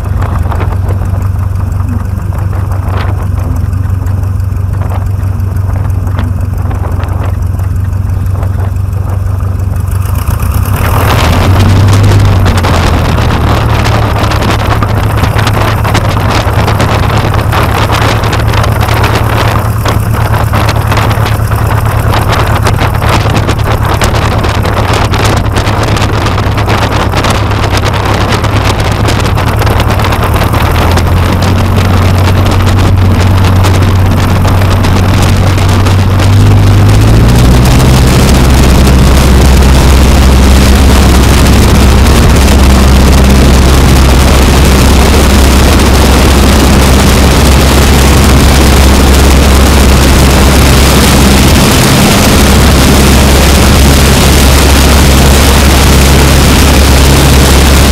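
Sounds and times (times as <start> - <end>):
light aircraft engine and propeller: 0.0 - 57.9
wind hissing on microphone: 0.0 - 57.9.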